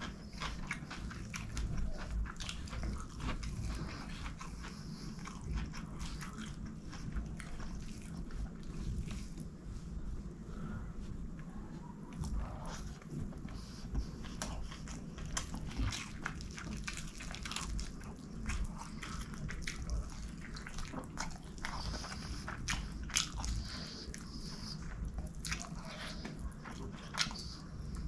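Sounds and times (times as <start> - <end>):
man chewing with mouth smacks: 0.0 - 28.0.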